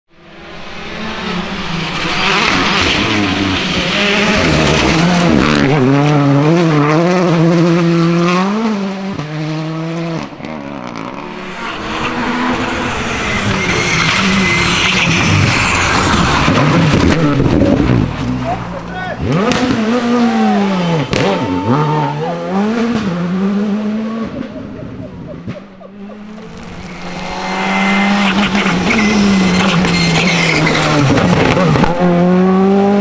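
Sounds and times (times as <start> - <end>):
rally car engines at full throttle: 0.1 - 33.0.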